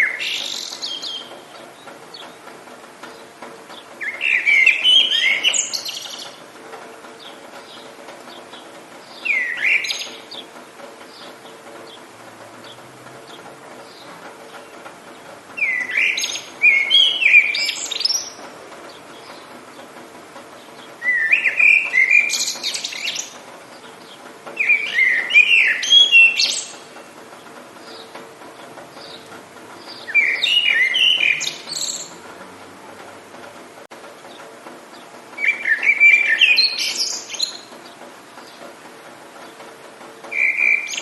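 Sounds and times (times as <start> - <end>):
songbird singing: 0.0 - 33.6, 34.2 - 41.0.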